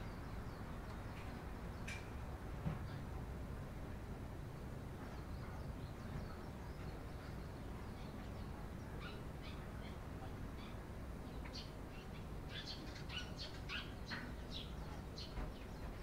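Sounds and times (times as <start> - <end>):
sparrows chirping: 0.0 - 2.2, 4.6 - 16.0.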